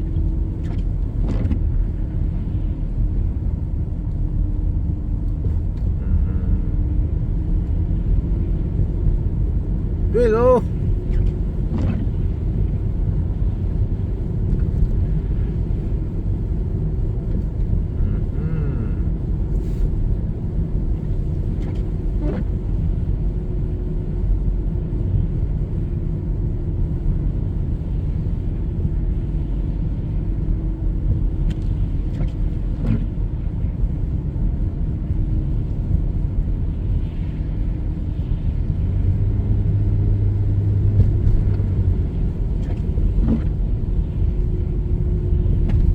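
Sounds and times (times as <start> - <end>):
car driving on road: 0.0 - 45.9.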